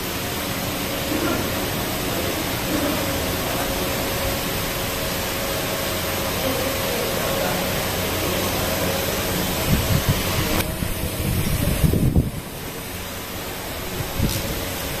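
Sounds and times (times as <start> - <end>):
hiss with low machine hum: 0.0 - 15.0.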